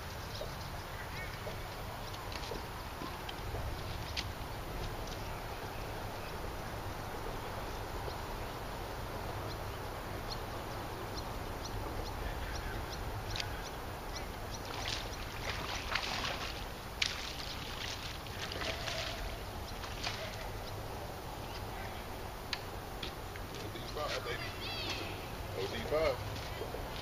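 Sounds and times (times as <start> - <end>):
wind and water rumble: 0.0 - 27.0.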